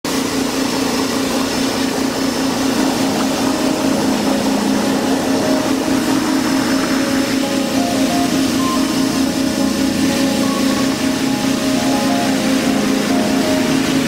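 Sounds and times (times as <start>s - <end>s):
machine hum with fast pulse: 0.1s - 14.0s.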